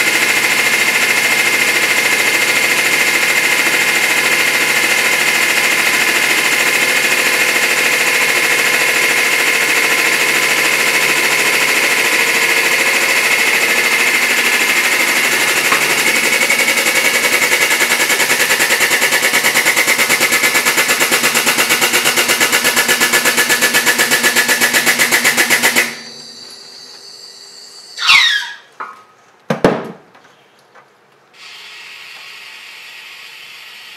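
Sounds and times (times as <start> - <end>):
hydraulic pump motor pulsing: 0.0 - 28.6.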